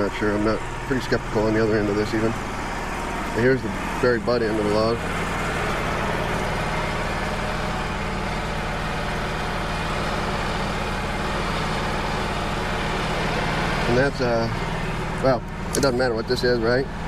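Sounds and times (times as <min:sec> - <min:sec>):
sawmill engine idling: 0:00.0 - 0:17.0.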